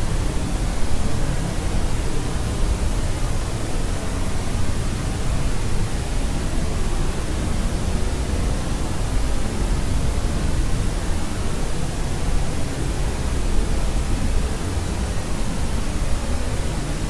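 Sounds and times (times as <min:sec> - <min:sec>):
low white noise hiss: 0:00.0 - 0:17.0.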